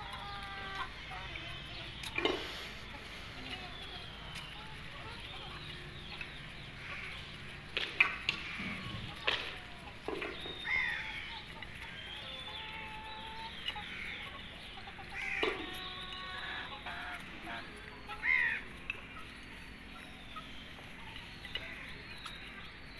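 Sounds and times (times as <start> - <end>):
young chickens clucking: 0.0 - 22.9.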